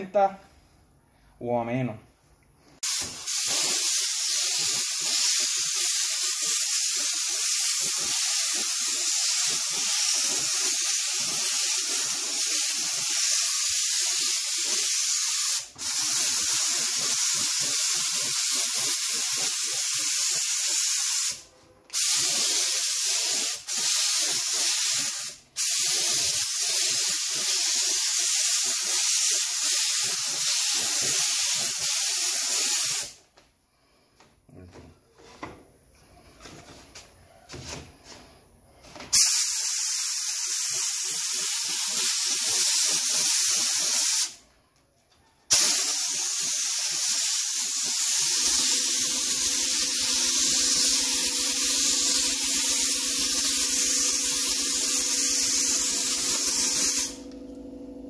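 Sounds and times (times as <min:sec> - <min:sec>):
spray gun hissing: 0:02.8 - 0:33.2, 0:39.1 - 0:44.4, 0:45.5 - 0:57.3.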